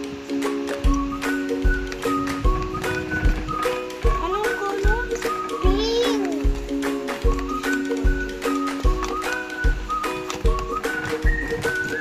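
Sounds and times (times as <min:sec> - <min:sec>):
music with thumping beat: 0:00.0 - 0:12.0
high whistle-like melody: 0:00.4 - 0:12.0.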